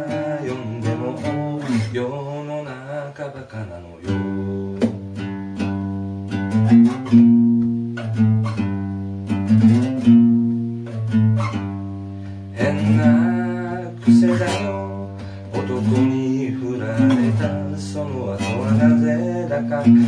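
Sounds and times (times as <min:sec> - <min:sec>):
acoustic guitar plucked notes: 0:00.0 - 0:20.0.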